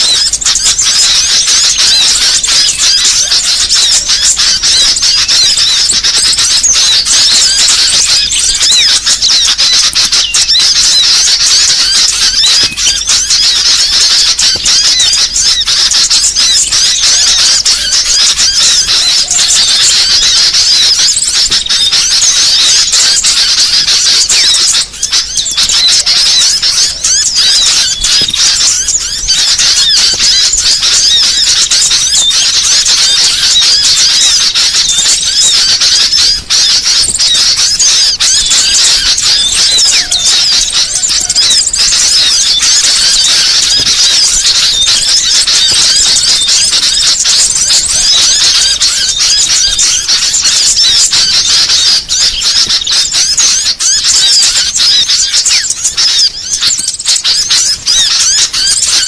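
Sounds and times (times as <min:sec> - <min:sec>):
small birds chirping and twittering: 0:00.0 - 0:59.0.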